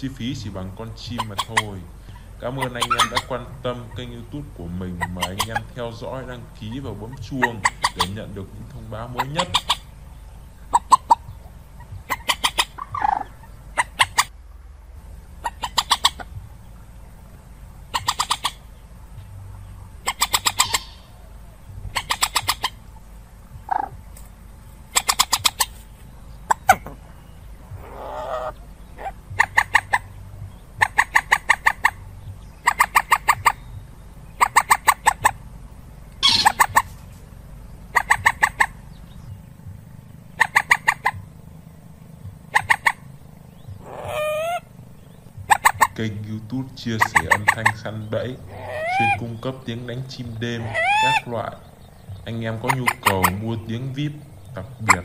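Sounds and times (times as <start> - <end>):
faint steady hum: 0.0 - 55.0
moorhen clucking calls: 0.0 - 55.0.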